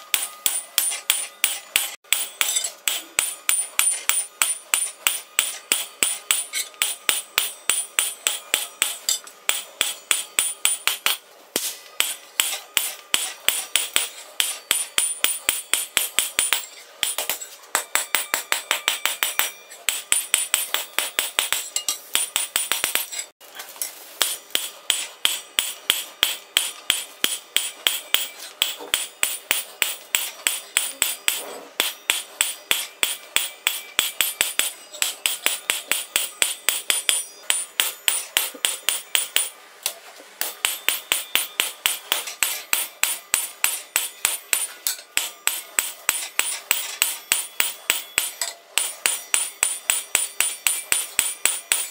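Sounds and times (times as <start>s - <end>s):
hammer striking steel on anvil: 0.0s - 23.4s, 24.2s - 51.9s.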